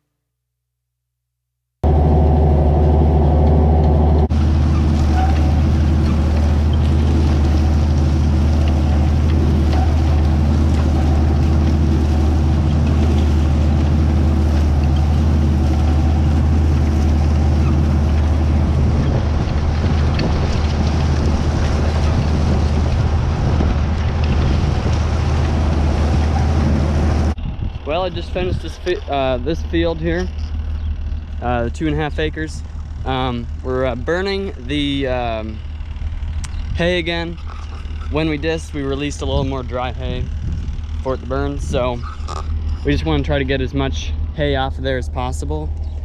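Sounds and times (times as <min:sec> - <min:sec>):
tractor diesel engine droning: 0:01.8 - 0:46.0.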